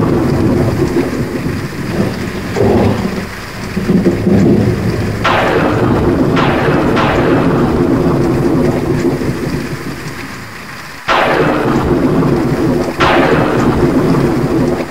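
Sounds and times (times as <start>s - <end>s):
steady rain: 0.0s - 14.9s
thunder rumbling and cracking: 0.0s - 14.9s.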